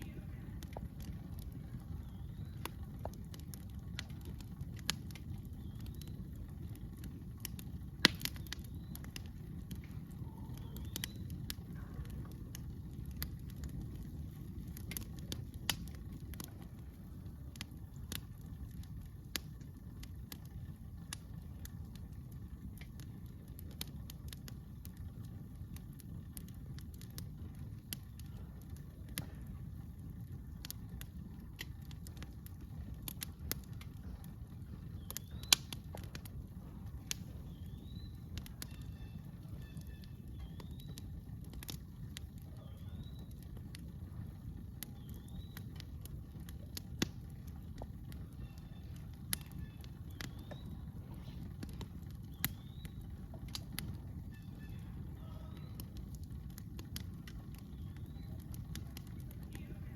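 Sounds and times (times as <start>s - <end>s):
campfire crackling and popping: 0.0s - 59.9s
steady low rumble: 0.0s - 59.9s.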